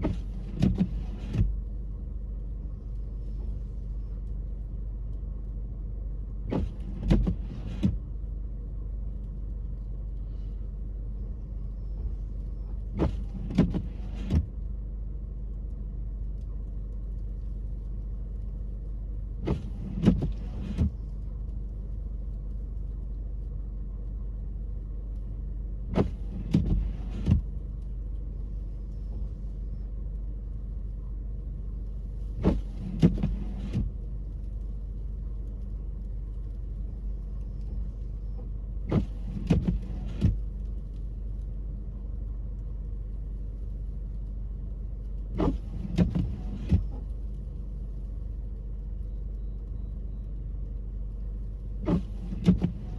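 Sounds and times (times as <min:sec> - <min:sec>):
windshield wipers knocking and whirring: 0:00.0 - 0:05.3, 0:06.3 - 0:09.8, 0:11.9 - 0:23.3, 0:24.0 - 0:48.8, 0:50.5 - 0:52.9
car driving rumble from cabin: 0:00.0 - 0:52.9.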